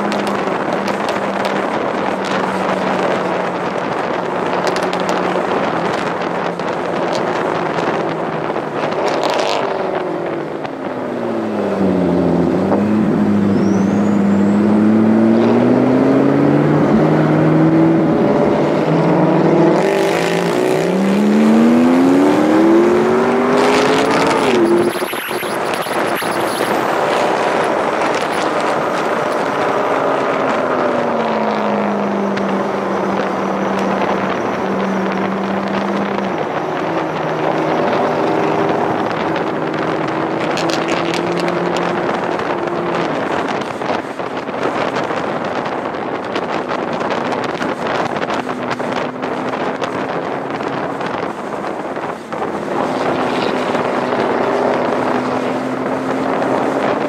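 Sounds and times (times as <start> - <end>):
car engine accelerating: 0.0 - 57.0
rushing wind noise: 0.0 - 57.0.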